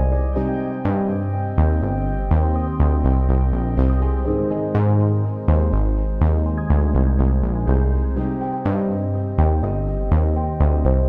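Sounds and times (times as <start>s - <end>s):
electronic music with strong bass: 0.0s - 11.0s.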